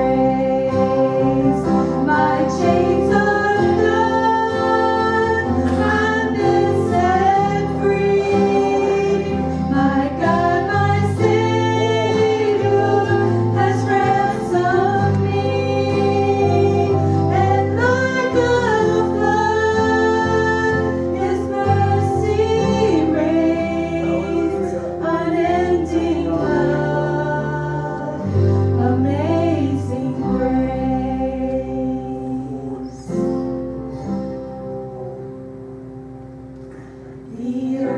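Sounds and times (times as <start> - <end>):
voices singing gospel song: 0.0 - 34.0, 37.2 - 37.9
instrumental accompaniment: 0.0 - 37.9.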